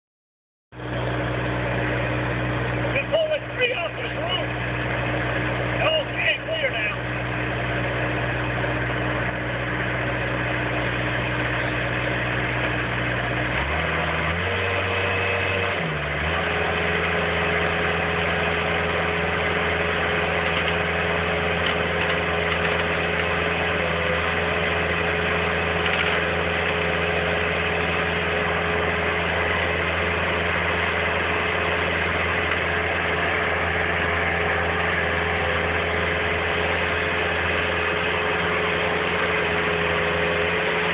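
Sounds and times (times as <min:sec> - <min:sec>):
loader engine revving: 0:00.8 - 0:40.9.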